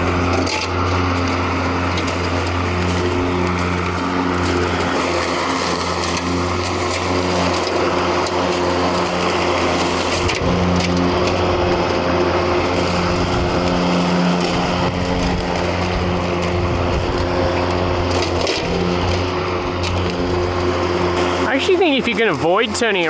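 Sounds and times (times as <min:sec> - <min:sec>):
electric lawn mower humming: 0:00.0 - 0:23.0.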